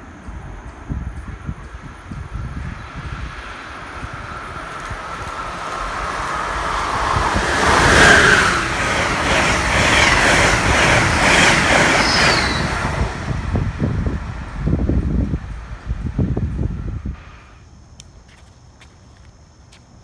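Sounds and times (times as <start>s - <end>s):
passenger train passing: 0.0s - 18.1s.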